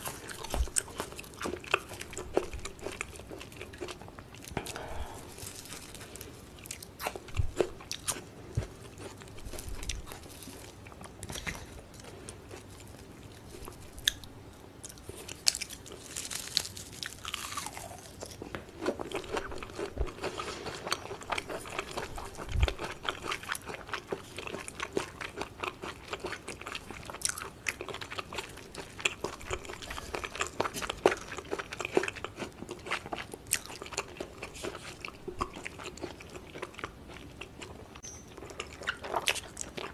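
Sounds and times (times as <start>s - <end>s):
chewing raw meat: 0.0s - 39.9s.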